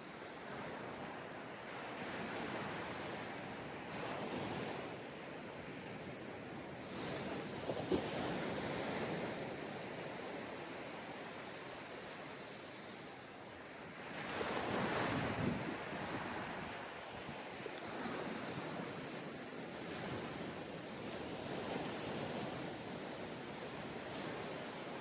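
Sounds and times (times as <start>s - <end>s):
sea waves crashing on beach: 1.8s - 25.0s.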